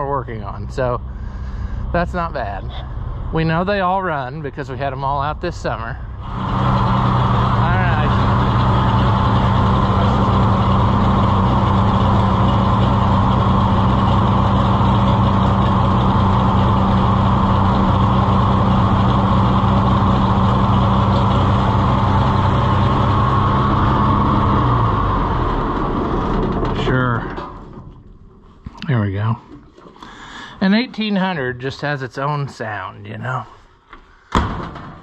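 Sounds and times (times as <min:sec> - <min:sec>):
tractor engine running: 0:00.0 - 0:28.6.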